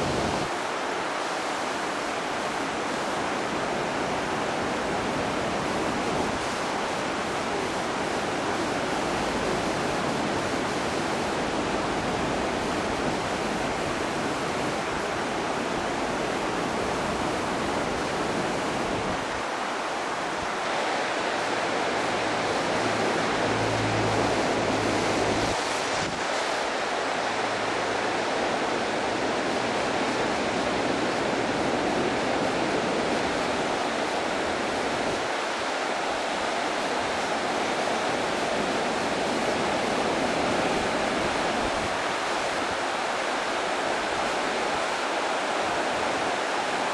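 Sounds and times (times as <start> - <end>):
rushing river water: 0.0 - 46.9.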